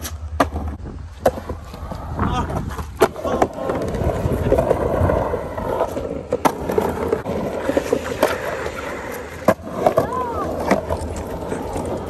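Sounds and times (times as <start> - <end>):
skateboard rolling on concrete: 0.0 - 12.0.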